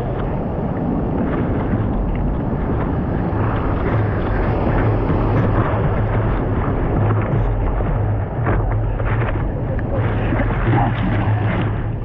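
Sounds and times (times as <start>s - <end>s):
ocean surf: 0.0s - 12.0s
wind rumble on microphone: 0.0s - 12.0s.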